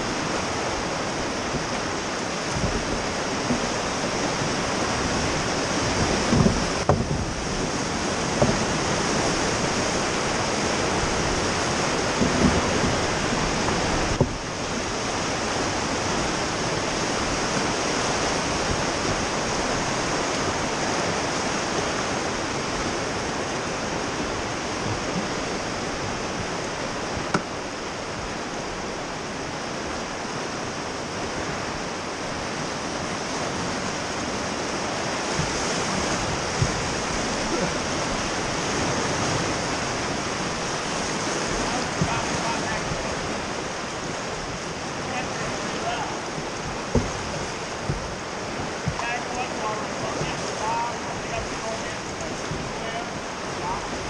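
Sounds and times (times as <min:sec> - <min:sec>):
whitewater rushing: 0:00.0 - 0:54.0.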